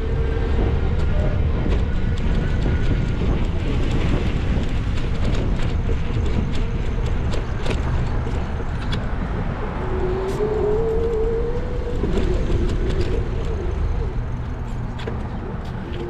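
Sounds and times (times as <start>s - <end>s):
car road and engine rumble: 0.0s - 16.0s
wind buffeting microphone: 0.0s - 16.0s.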